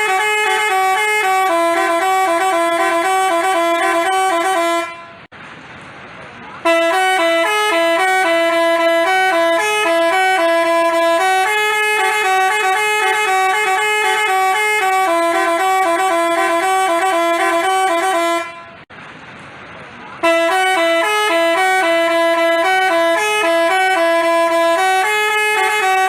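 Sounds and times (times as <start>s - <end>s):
multi-tone bus horn melody: 0.0s - 5.3s, 6.6s - 18.9s, 20.2s - 26.0s.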